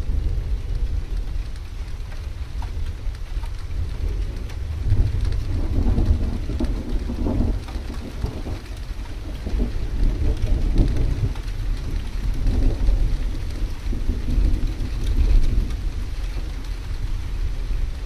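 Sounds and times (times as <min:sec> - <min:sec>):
low thunder rumble: 0:00.0 - 0:18.0
rain drops ticking: 0:00.0 - 0:18.0.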